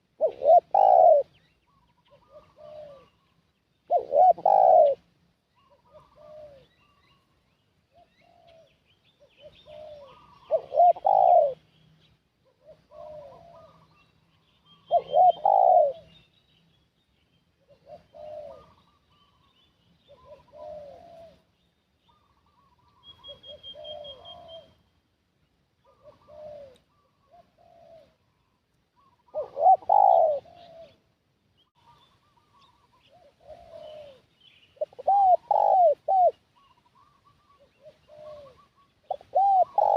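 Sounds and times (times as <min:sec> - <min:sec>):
doves cooing: 0:00.0 - 0:07.2, 0:07.9 - 0:11.7, 0:12.4 - 0:14.1, 0:14.7 - 0:16.2, 0:17.6 - 0:19.5, 0:20.1 - 0:21.5, 0:22.1 - 0:24.8, 0:25.8 - 0:31.2, 0:31.8 - 0:39.9
small birds chirping: 0:00.2 - 0:39.9.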